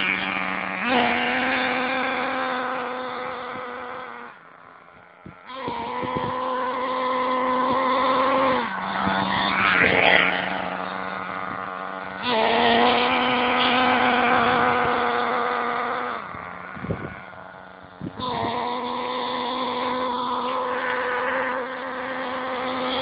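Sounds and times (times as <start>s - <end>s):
nitro engine buzzing: 0.0s - 23.0s.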